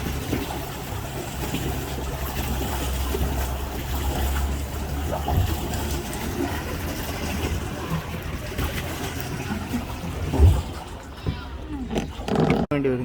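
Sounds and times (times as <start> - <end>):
water trickling and splashing: 0.0 - 12.7.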